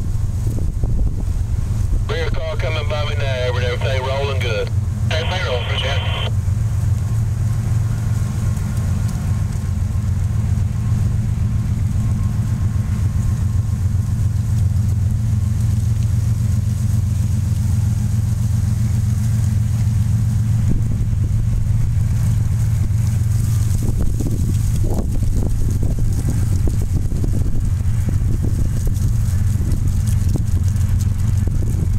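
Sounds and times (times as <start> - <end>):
low engine rumble: 0.0 - 31.9.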